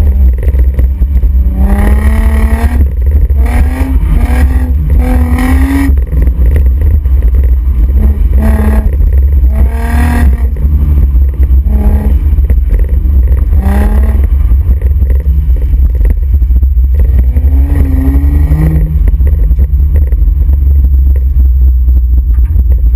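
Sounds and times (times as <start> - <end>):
car exhaust revving: 0.0 - 22.9
heavy low engine rumble: 0.0 - 22.9.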